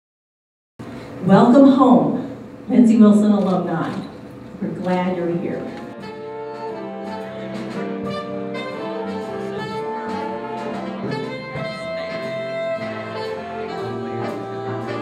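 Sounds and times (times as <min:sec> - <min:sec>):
big band playing jazz: 0:02.7 - 0:15.0.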